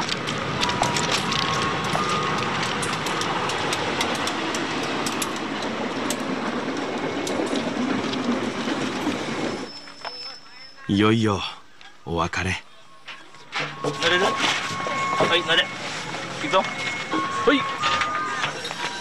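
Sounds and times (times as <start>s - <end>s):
wheels clicking over rail joints: 0.0s - 10.4s, 13.1s - 19.0s
train rumbling past: 0.0s - 10.8s, 12.7s - 19.0s.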